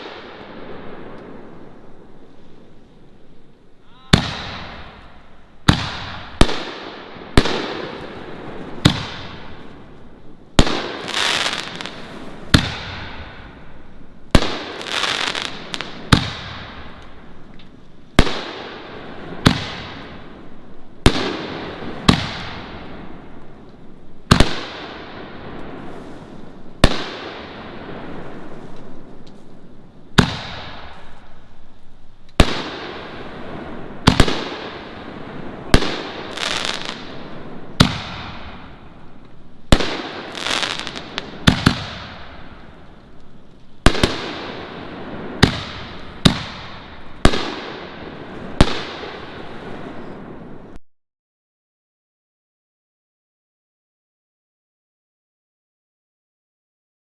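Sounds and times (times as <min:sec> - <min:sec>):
firework crackling: 0:00.0 - 0:50.8.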